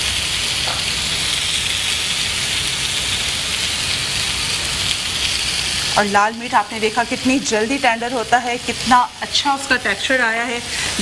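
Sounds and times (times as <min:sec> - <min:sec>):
meat sizzling on grill pan: 0:00.0 - 0:11.0.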